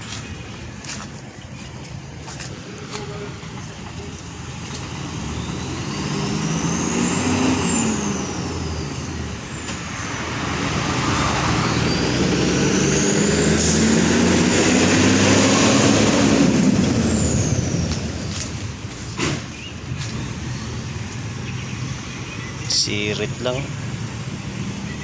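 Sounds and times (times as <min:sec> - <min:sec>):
diesel engine revving: 0:02.0 - 0:25.0.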